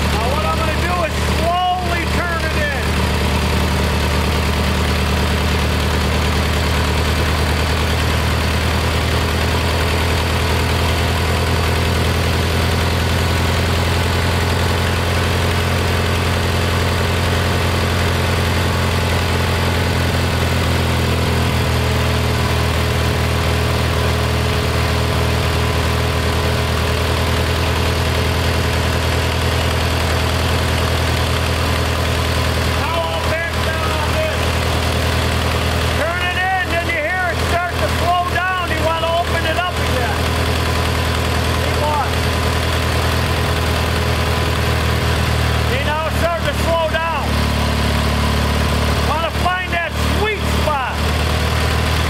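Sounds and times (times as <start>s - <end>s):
twin-cylinder engine idling: 0.0s - 52.0s.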